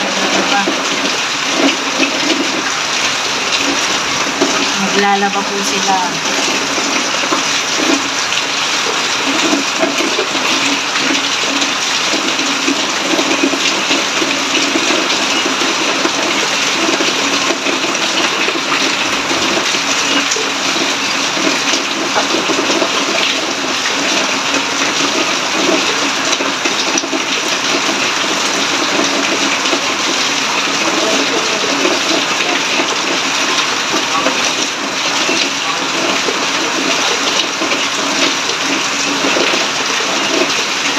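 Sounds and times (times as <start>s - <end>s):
heavy rain: 0.0s - 40.9s
water splashing onto concrete: 0.0s - 40.9s.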